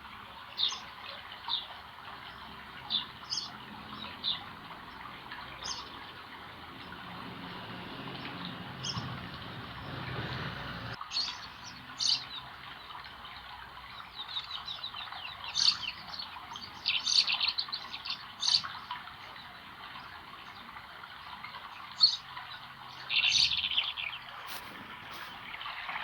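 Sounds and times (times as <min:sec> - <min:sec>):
flowing water: 0:00.0 - 0:26.0
songbirds chirping: 0:00.0 - 0:26.0.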